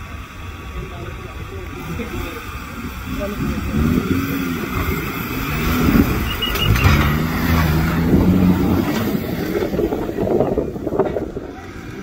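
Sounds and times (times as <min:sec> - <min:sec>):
engine revving under load: 0:01.6 - 0:12.0.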